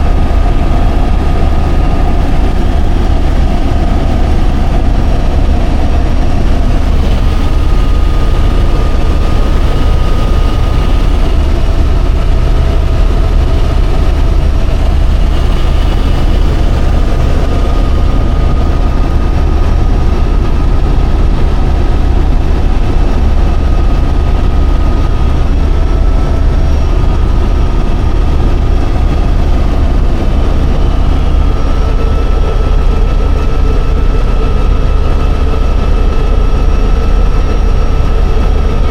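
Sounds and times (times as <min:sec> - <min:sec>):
faint steady whine: 0:00.0 - 0:38.9
helicopter cabin rumble: 0:00.0 - 0:38.9.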